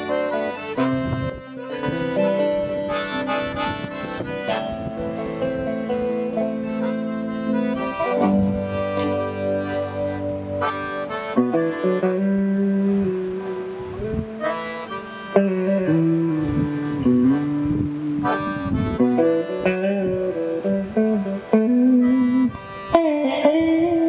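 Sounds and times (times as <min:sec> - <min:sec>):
accordion melody: 0:00.0 - 0:24.0
guitar playing: 0:00.0 - 0:24.0.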